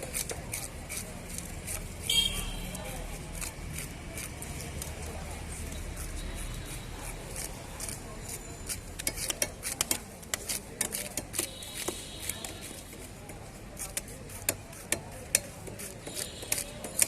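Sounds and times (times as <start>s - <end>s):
knife scraping fish: 0.0s - 17.0s.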